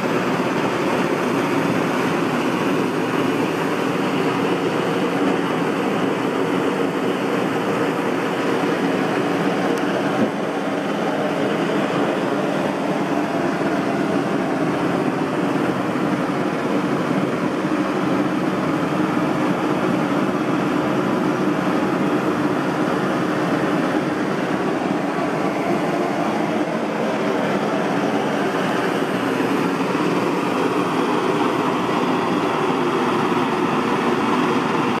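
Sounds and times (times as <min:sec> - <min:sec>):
blowtorches rushing: 0:00.0 - 0:35.0.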